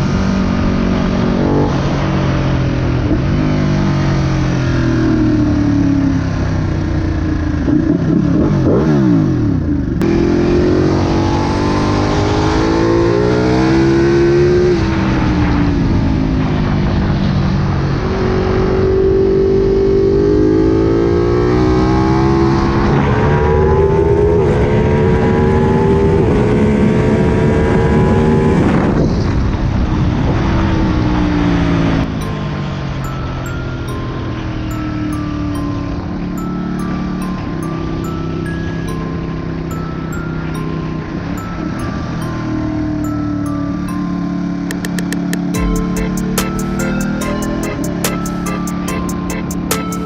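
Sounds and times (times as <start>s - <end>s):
motorcycle engine revving: 0.0s - 49.7s.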